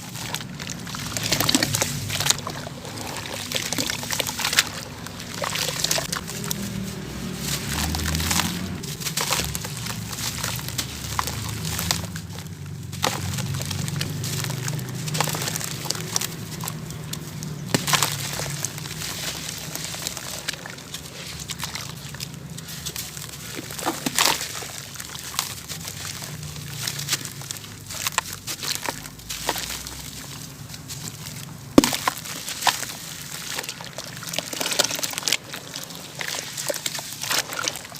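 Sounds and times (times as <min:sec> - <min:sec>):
dry cement crumbling and cracking: 0:00.0 - 0:37.9.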